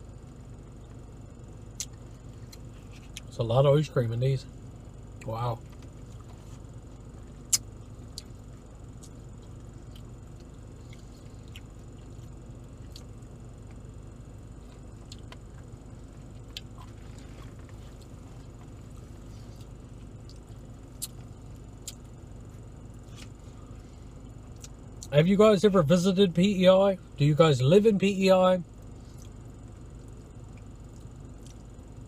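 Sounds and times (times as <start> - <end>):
air conditioning hum: 0.0 - 32.0
car engine idling: 0.0 - 32.0.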